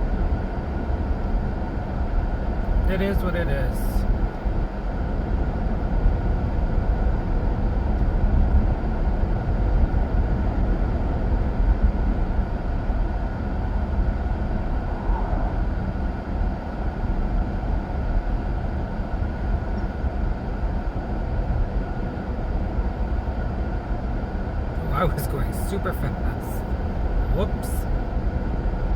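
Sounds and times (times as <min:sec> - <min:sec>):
faint steady whine: 0:00.0 - 0:28.9
road and engine noise in car: 0:00.0 - 0:28.9.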